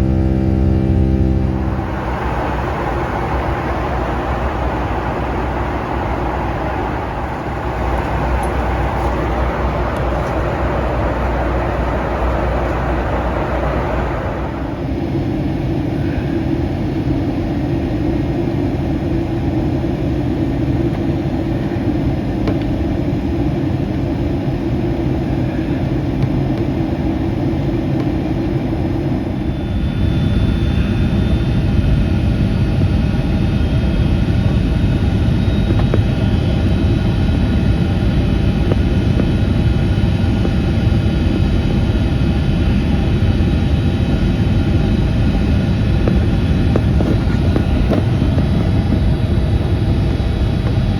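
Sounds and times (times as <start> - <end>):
steady whining tones: 0.0 - 18.0, 24.6 - 50.9
engine and airflow rumble: 0.0 - 50.9.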